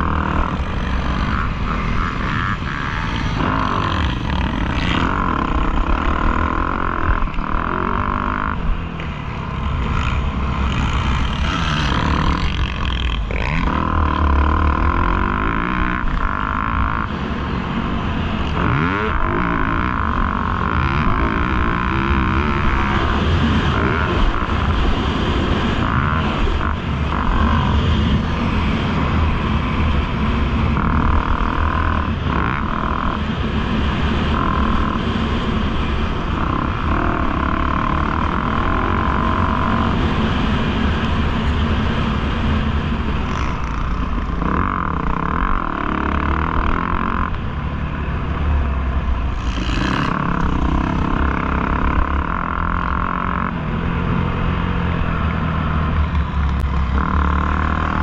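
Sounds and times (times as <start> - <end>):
dirt bike engine revving: 0.0 - 48.0, 49.0 - 58.0.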